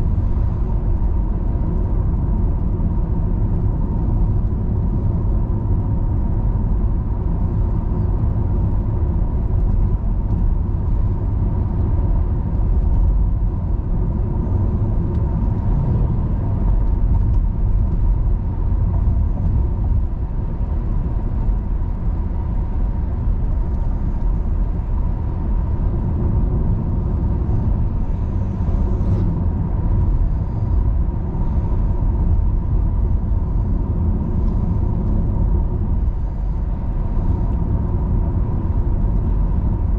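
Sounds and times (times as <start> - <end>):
tyres and engine rumbling: 0.0 - 39.9.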